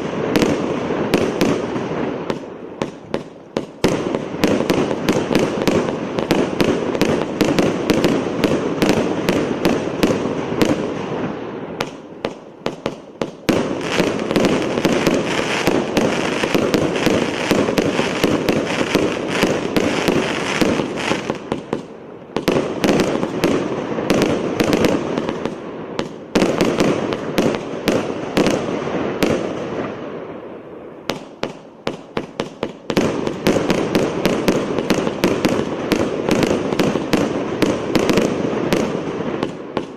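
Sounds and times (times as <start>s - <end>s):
fireworks crackling overhead: 0.0s - 39.9s
fireworks firing volleys: 0.0s - 39.9s.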